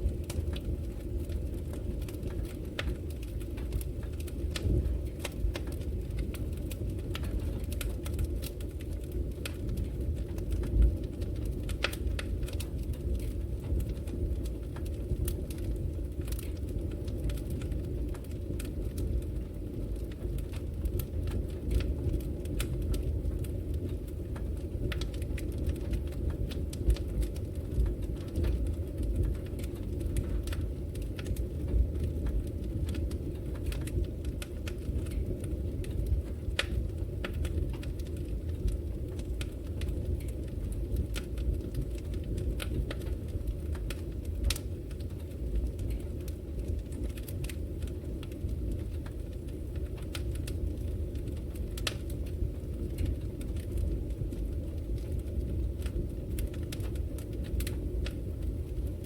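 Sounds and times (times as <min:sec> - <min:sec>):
fire flames rumbling: 0:00.0 - 0:59.0
logs crackling and popping: 0:00.0 - 0:59.0.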